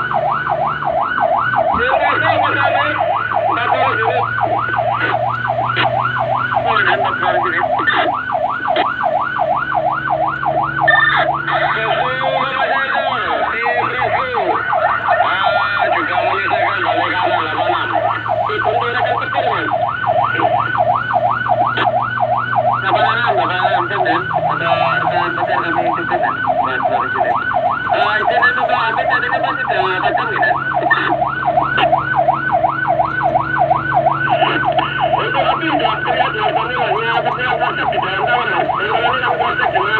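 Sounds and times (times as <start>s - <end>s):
fire engine siren yelping: 0.0s - 39.9s.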